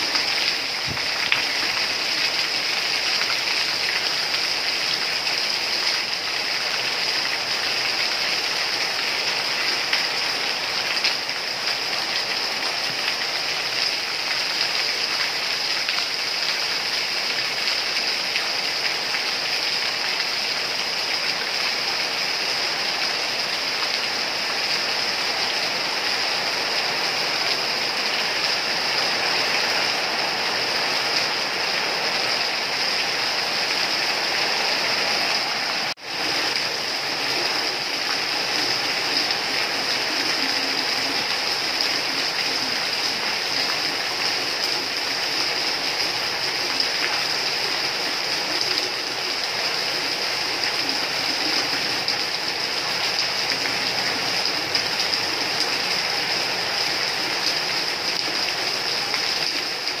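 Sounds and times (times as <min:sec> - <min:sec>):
heavy rain: 0:00.0 - 1:00.0.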